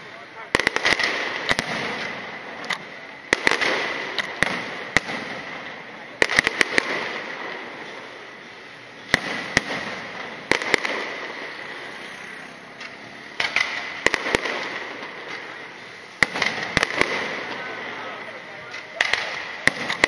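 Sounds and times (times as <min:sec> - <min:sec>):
firework crackling: 0:00.0 - 0:20.0
firework shells bursting: 0:00.0 - 0:20.0.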